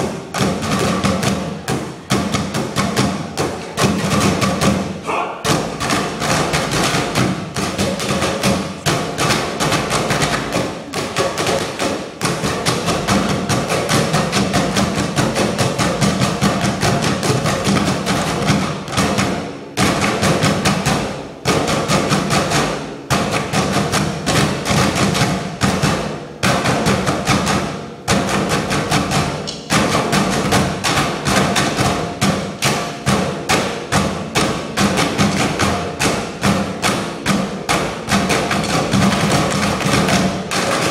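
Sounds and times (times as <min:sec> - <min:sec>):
drumming on metal trash cans: 0:00.0 - 0:40.9.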